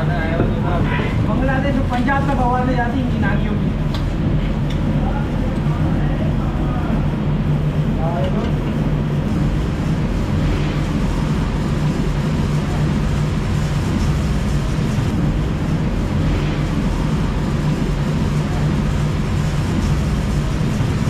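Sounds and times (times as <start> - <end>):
low machine drone: 0.0 - 21.0.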